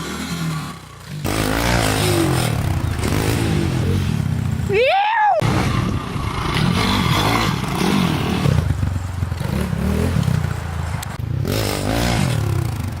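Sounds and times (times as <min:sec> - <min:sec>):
pit bike engines revving: 0:00.0 - 0:13.0.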